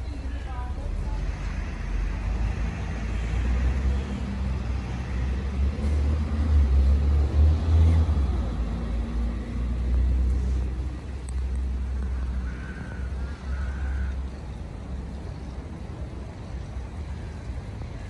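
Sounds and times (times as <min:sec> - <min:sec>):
low rumble of road traffic: 0:00.0 - 0:18.0
vehicle passing: 0:00.0 - 0:18.0.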